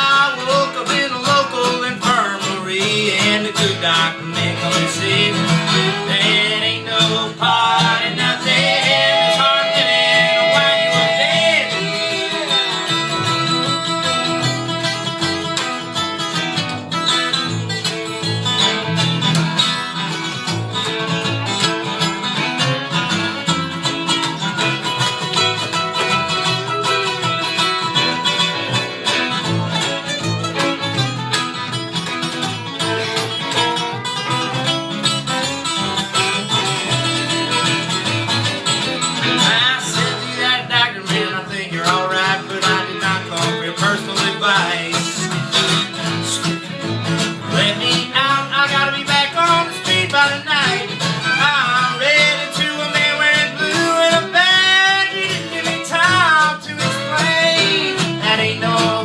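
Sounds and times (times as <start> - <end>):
picked acoustic guitar: 0.0 - 59.0.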